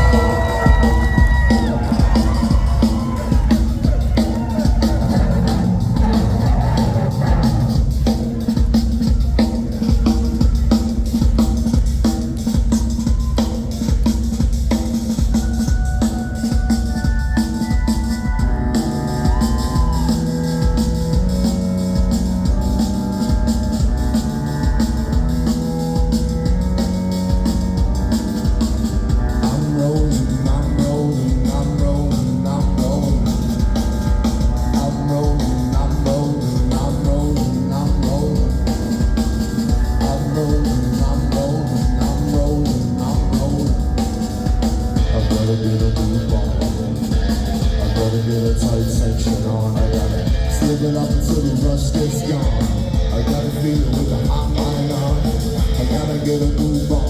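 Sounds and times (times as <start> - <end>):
bass and melodic figure: 0.0 - 57.0
drum kit beat: 0.0 - 57.0.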